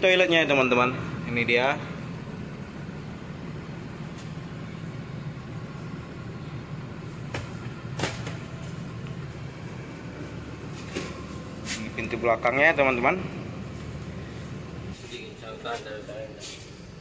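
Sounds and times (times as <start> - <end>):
bus machinery humming: 0.0 - 17.0.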